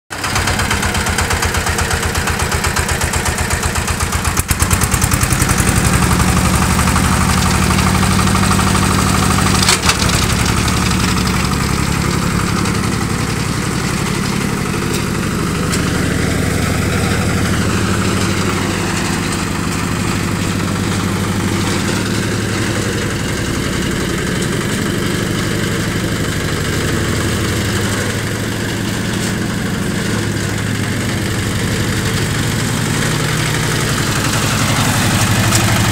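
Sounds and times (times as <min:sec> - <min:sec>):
tractor engine running: 0:00.1 - 0:35.9.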